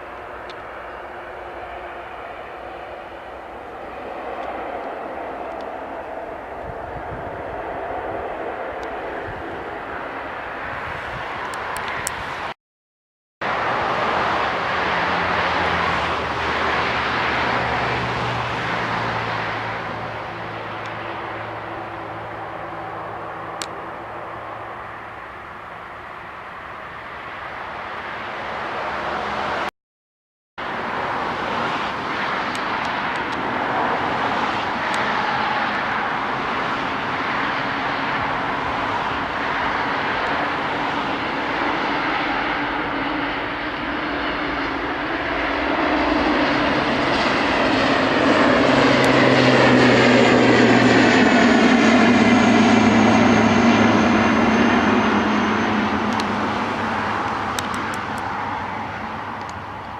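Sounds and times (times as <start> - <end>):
aircraft engine rushing: 0.0 - 12.6, 13.4 - 29.7, 30.6 - 59.9.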